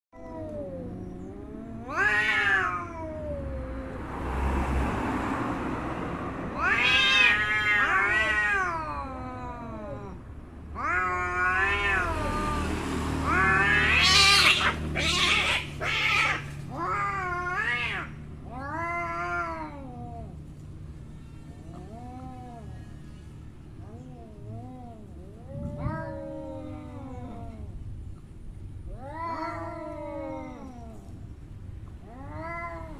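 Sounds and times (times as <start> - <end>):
cats yowling in a fight: 0.2 - 4.5, 6.5 - 20.6, 21.6 - 22.9, 23.8 - 28.0, 28.8 - 32.9.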